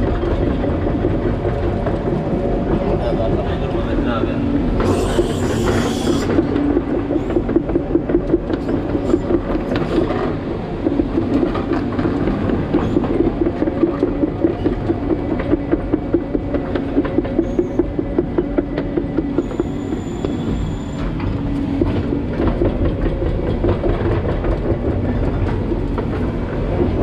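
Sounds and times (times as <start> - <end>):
excavator diesel engine clattering: 0.0 - 27.0.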